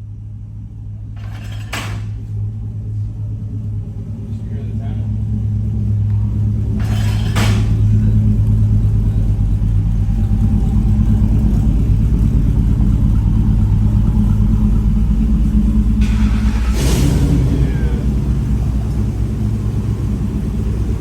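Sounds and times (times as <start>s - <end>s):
deep truck exhaust note: 0.0s - 21.0s.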